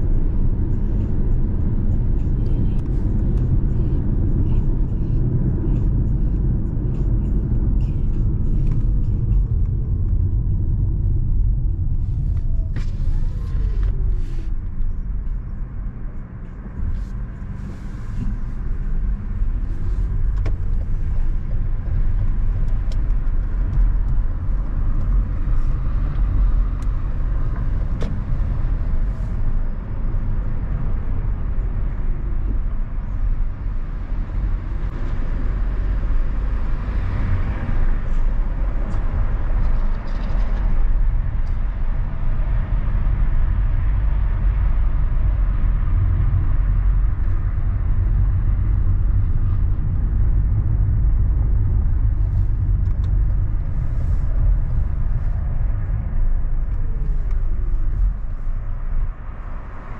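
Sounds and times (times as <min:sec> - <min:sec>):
car driving on highway: 0:00.0 - 0:59.9.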